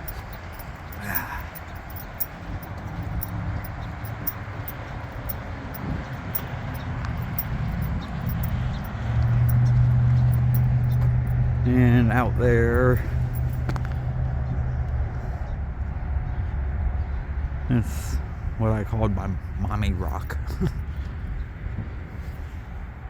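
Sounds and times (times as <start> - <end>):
steady low hum: 0.0 - 22.0
engine rumbling: 0.0 - 23.0.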